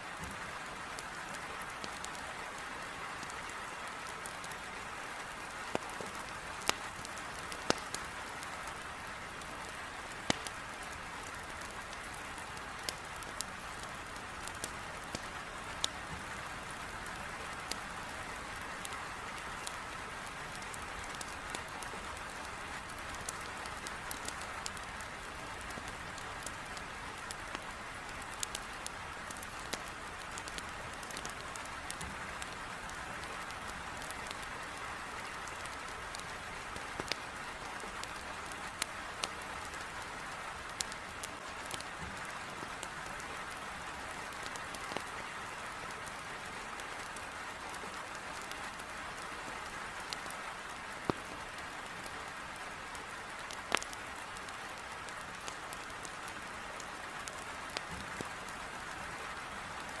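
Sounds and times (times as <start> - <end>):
wood fire crackling: 0.2 - 60.0.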